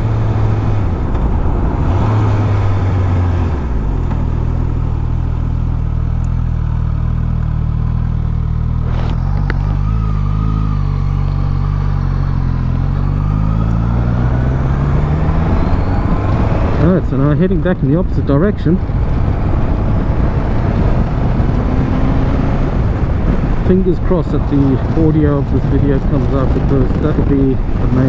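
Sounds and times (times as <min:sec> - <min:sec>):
motorcycle engine at low revs: 0:00.0 - 0:28.0.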